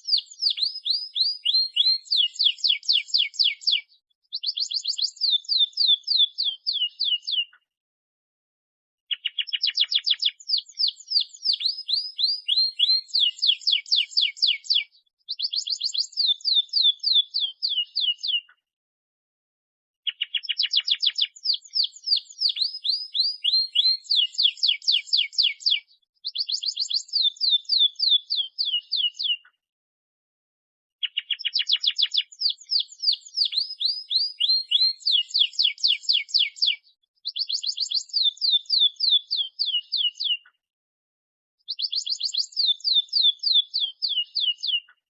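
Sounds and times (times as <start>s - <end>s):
canary singing trills: 0.0s - 7.6s, 9.1s - 18.5s, 20.0s - 29.5s, 31.0s - 40.5s, 41.6s - 45.0s.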